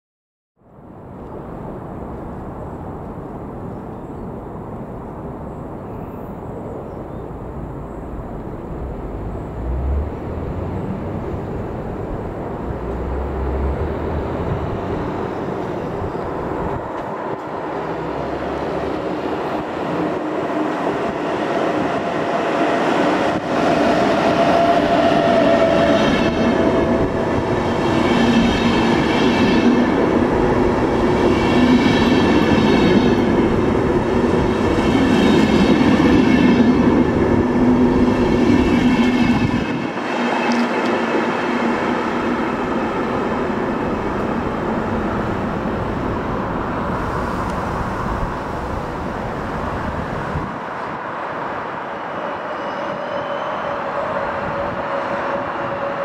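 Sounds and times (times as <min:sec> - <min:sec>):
train rumbling past: 0:00.8 - 0:56.0.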